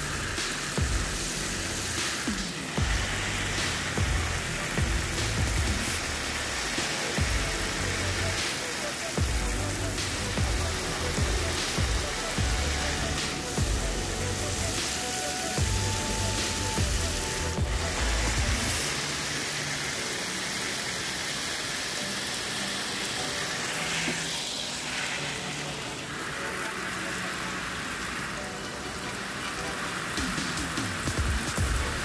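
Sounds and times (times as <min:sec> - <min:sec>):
background music: 0:00.0 - 0:32.0
spraying water hiss: 0:00.0 - 0:32.0.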